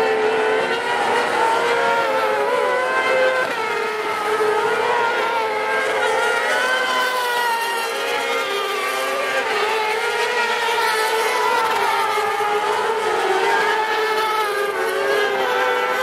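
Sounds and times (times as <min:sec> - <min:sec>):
buggy engines revving high: 0:00.0 - 0:16.0.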